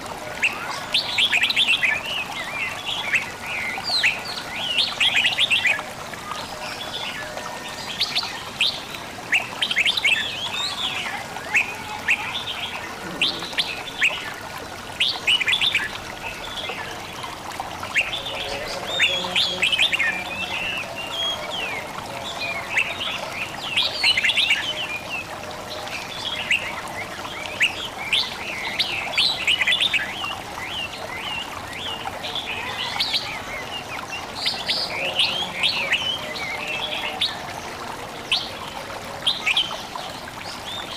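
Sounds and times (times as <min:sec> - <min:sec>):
songbirds chirping: 0:00.0 - 0:40.9
trickle of running water: 0:00.0 - 0:40.9.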